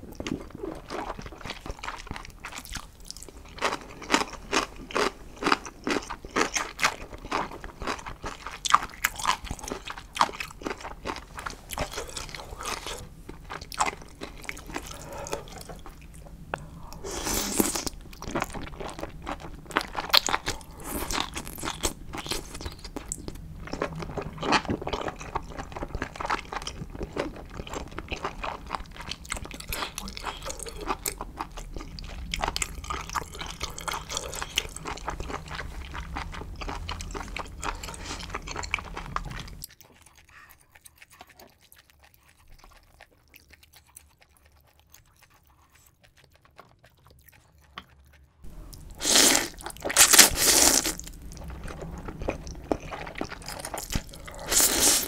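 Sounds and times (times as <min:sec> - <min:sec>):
chewing with wet clicks: 0:00.1 - 0:16.7, 0:17.6 - 0:54.7.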